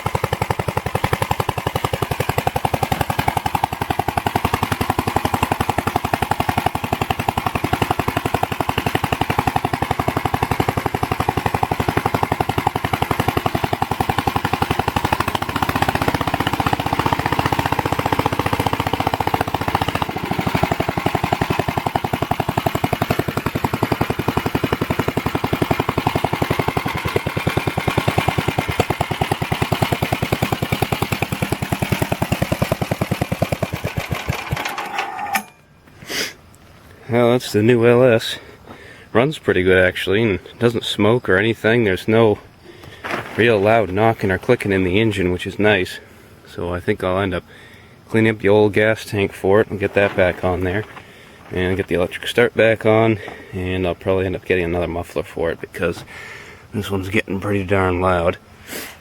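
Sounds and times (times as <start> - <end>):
single-cylinder engine popping: 0.0 - 59.0.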